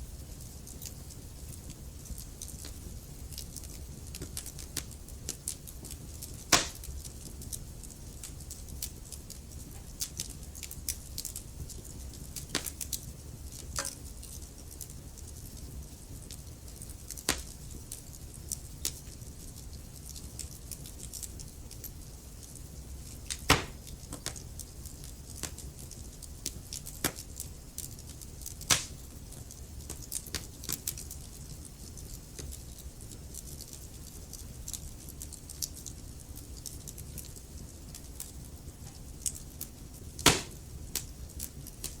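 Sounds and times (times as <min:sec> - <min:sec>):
low rumble of burning: 0:00.0 - 0:42.0
wood fire crackling: 0:00.0 - 0:42.0
sharp pops and snaps: 0:00.4 - 0:22.6, 0:23.2 - 0:42.0.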